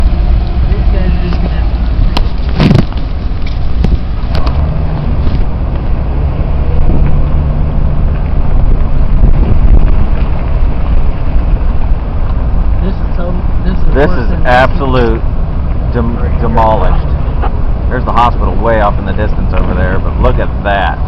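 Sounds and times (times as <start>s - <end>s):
car driving rumble inside cabin: 0.0s - 21.0s.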